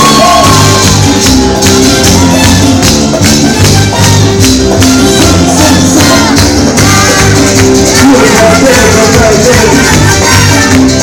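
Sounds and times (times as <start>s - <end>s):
bass: 0.0s - 11.0s
live band playing dance music: 0.0s - 11.0s
shaker percussion: 0.0s - 11.0s.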